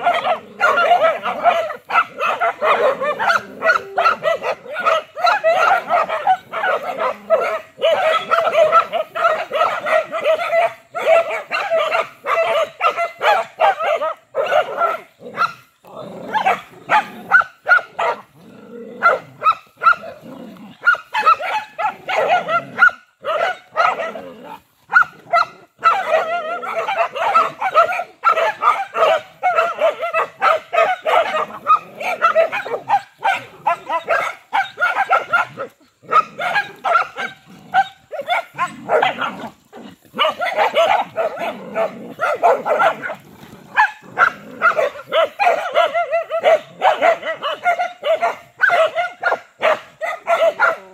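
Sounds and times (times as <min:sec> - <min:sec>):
dogs barking: 0:00.0 - 0:50.9.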